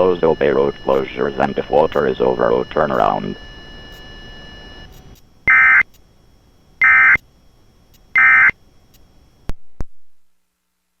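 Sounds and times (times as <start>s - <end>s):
screechy modem tone bursts: 0.0s - 9.0s.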